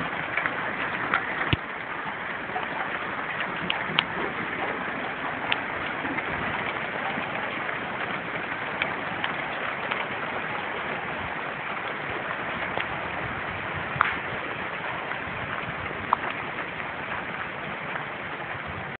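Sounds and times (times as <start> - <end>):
hail pattering: 0.0 - 19.0.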